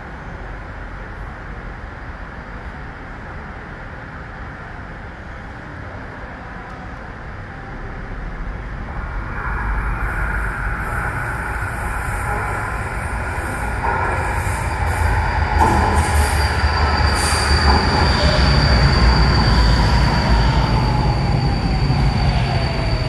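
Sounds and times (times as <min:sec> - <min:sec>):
light-rail train approaching: 0:00.0 - 0:23.0.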